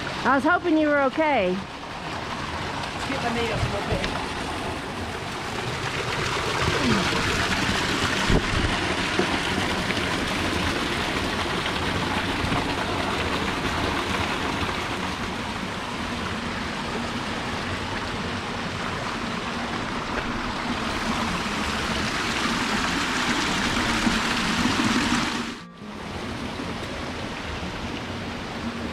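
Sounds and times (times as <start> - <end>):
creek water rushing over rocks: 0.0 - 28.9.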